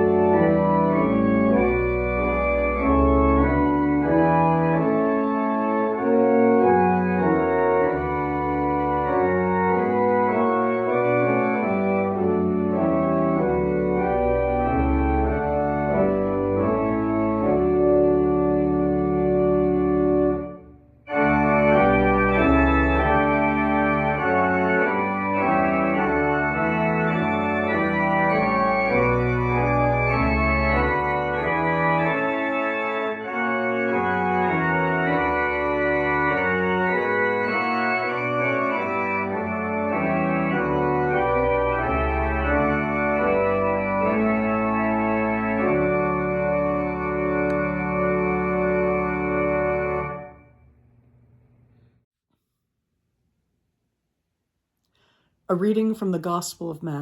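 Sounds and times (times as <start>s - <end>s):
organ playing held chords: 0.0s - 50.6s.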